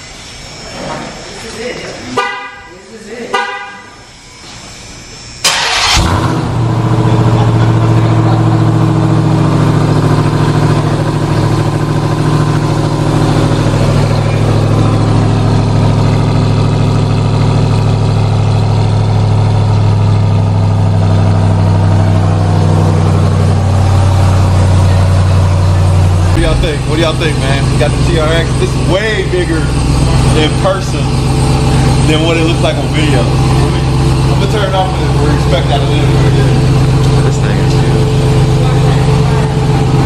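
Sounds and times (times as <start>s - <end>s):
engine starting and idling loudly: 5.4s - 40.0s.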